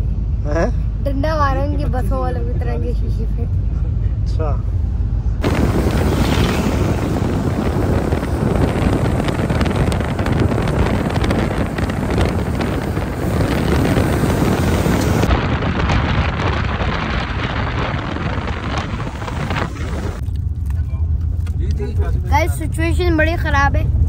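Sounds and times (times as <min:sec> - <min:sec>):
car travelling at highway speed: 0:00.0 - 0:24.0
wind buffeting microphone: 0:00.9 - 0:24.0.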